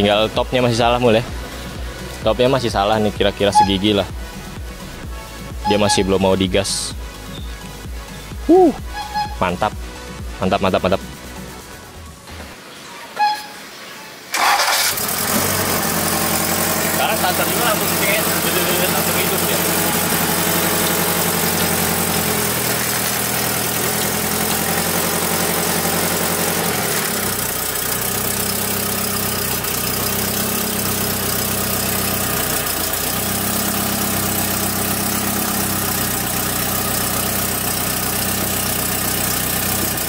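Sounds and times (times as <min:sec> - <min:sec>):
car engine idling: 0:00.0 - 0:12.6, 0:14.3 - 0:40.0.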